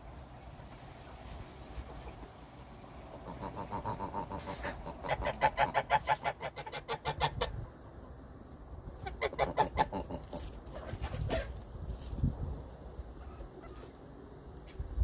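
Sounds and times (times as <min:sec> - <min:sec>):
chickens clucking: 0:00.4 - 0:12.2, 0:13.1 - 0:14.9.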